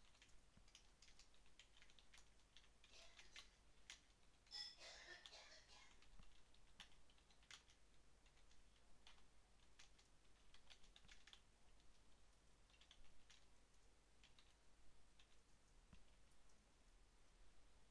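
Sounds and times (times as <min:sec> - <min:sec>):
computer keyboard typing: 0:00.0 - 0:16.6.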